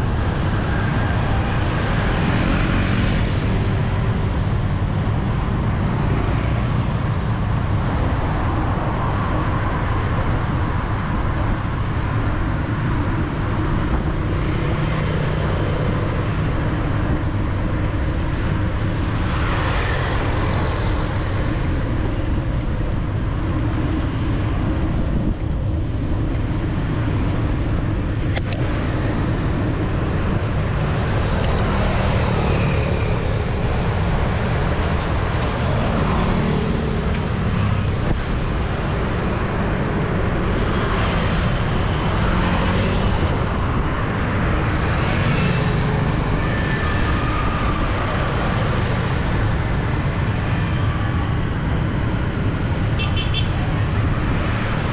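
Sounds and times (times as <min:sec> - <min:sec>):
motorbikes and cars passing: 0:00.0 - 0:54.9.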